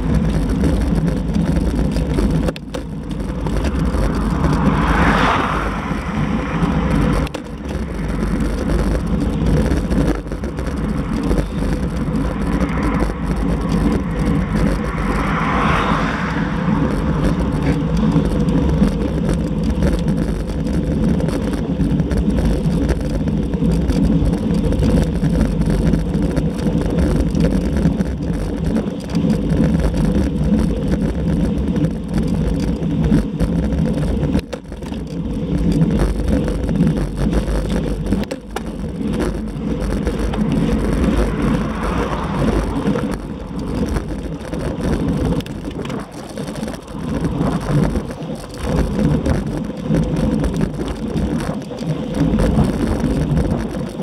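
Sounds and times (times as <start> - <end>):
tyre and road noise: 0.0 - 54.0
wind buffeting microphone: 0.0 - 54.0.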